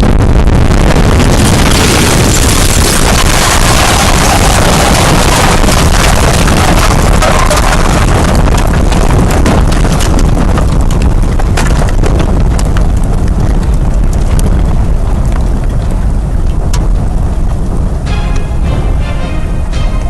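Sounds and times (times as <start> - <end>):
heavy low rumble: 0.0 - 20.0
wind buffeting microphone: 0.0 - 20.0
sharp cracks and knocks: 1.4 - 17.6.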